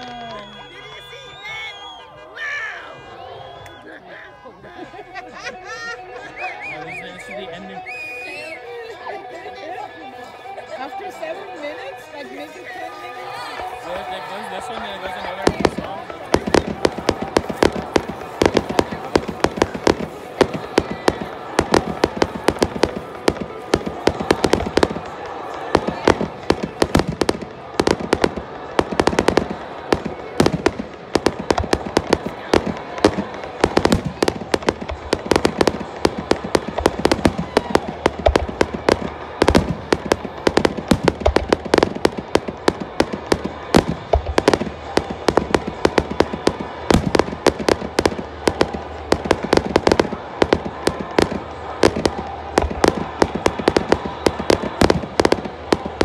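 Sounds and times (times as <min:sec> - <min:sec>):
fireworks bangs and crackles: 0:00.0 - 0:02.3, 0:06.1 - 0:56.0.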